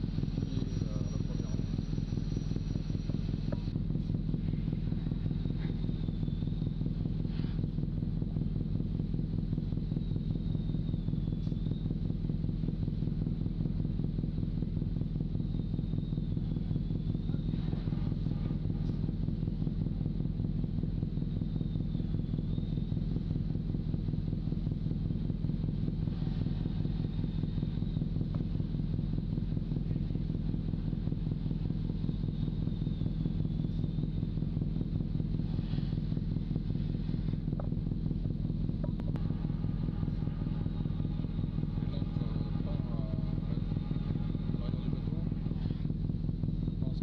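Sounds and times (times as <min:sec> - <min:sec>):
faint high whine: 0:00.0 - 0:47.0
heavy machinery droning: 0:00.0 - 0:47.0.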